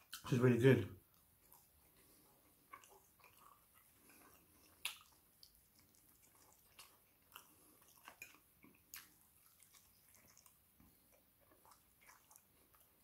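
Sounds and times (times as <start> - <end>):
wet chewing and lip smacks: 0.0 - 0.3, 1.0 - 13.0.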